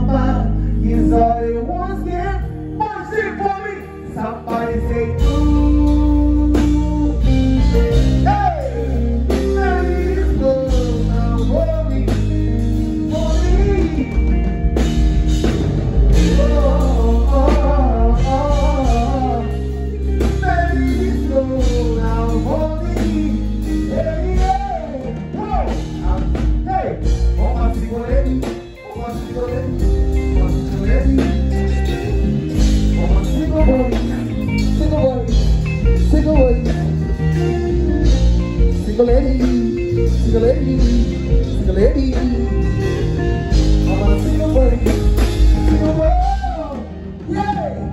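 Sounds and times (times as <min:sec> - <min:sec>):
live band music: 0:00.0 - 0:47.9.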